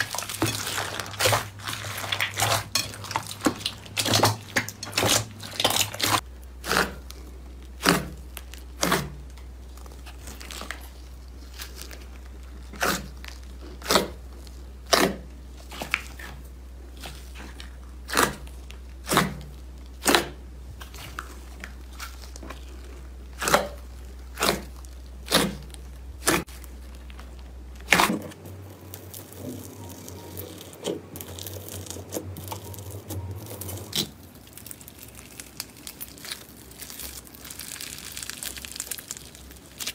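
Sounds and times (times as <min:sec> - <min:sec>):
crunchy material cracking: 0:00.0 - 0:16.3, 0:16.9 - 0:39.9.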